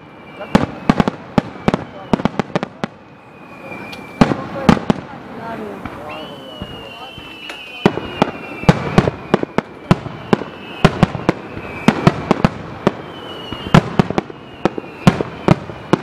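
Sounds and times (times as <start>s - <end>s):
firework whistle: 0.0s - 16.0s.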